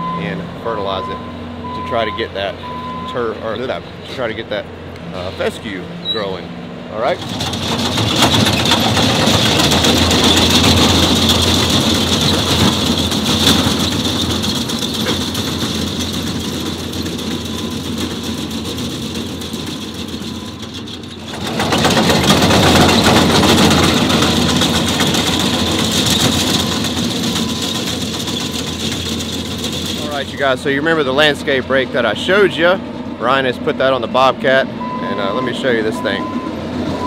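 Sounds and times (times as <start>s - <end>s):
skid steer diesel engine running: 0.0s - 37.0s.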